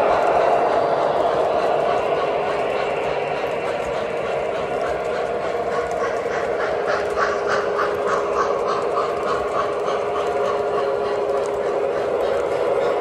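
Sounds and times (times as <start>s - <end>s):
model trains humming on rails: 0.0s - 13.0s
rhythmic pulsing: 0.0s - 13.0s.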